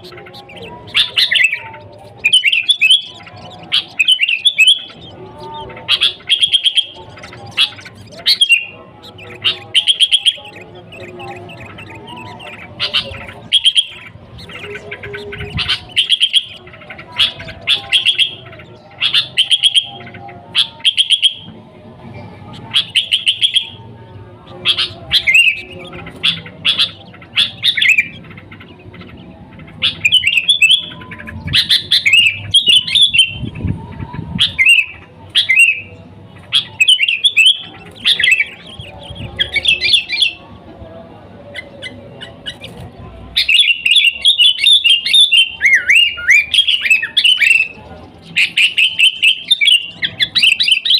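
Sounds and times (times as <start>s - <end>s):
bulbul singing chirping phrases: 0.0s - 50.9s.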